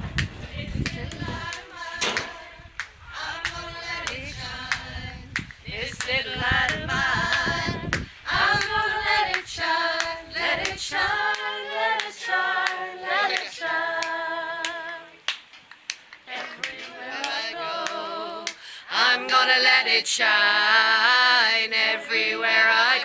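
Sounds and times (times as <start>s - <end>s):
gospel choir singing a cappella: 0.0s - 15.3s, 16.2s - 23.0s
hand claps: 0.1s - 18.6s.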